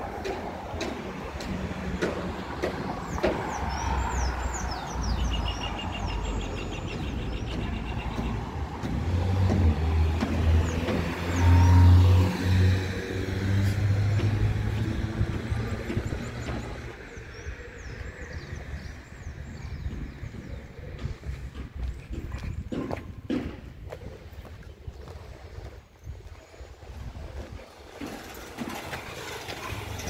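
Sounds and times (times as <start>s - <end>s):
passing car traffic: 0.0s - 24.4s, 27.7s - 30.0s.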